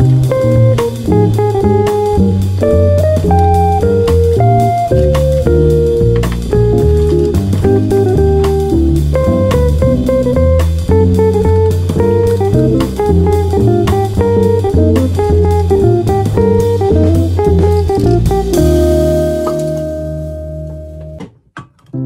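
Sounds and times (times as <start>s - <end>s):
held keyboard chords: 0.0s - 21.3s
instrumental music with guitar: 0.0s - 22.0s.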